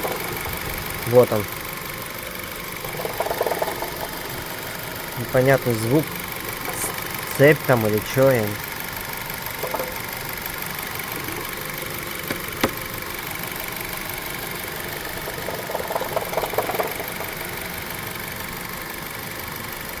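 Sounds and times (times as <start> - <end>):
engine idling: 0.0 - 20.0
quick engine ticking: 0.0 - 20.0
sharp engine clicks: 0.0 - 20.0.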